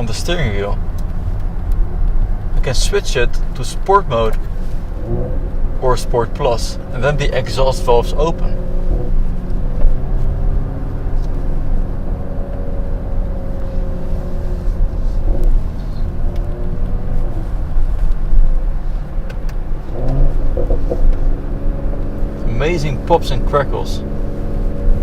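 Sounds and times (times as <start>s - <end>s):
car engine running: 0.0s - 25.0s
exhaust pops and crackles: 0.0s - 25.0s.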